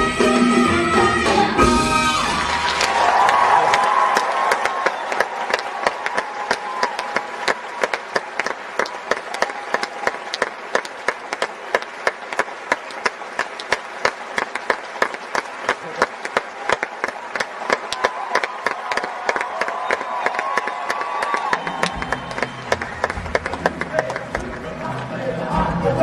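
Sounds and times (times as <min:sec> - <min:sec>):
audience applauding: 0:01.4 - 0:26.0.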